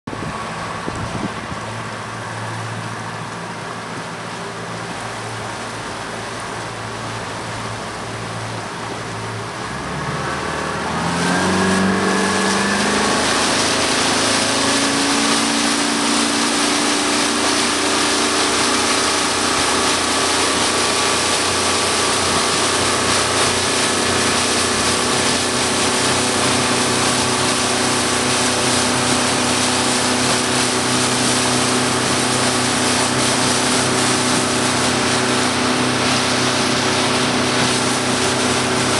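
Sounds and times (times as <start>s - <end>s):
motorboat engine: 0.1s - 38.9s
rush of water and wind: 0.1s - 38.9s.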